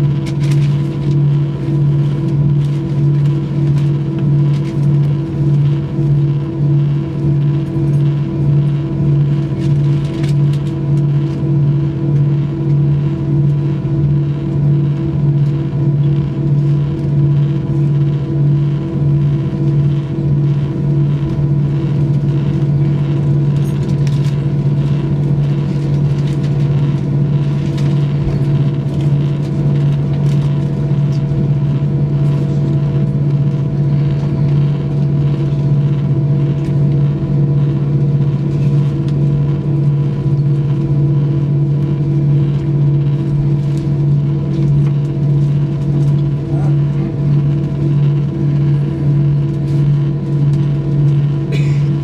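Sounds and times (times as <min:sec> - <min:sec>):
jet engines cabin drone: 0:00.0 - 0:52.0.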